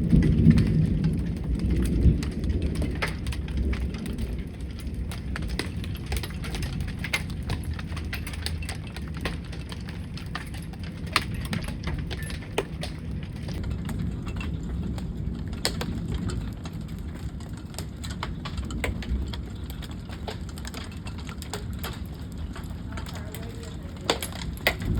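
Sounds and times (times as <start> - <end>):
raindrops tapping: 0.0 - 24.9
wind rumbling on microphone: 0.0 - 24.9.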